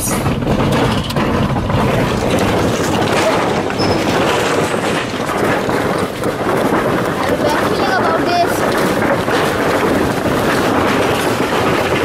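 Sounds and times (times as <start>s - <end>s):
car rumble and tyre noise: 0.0s - 12.0s.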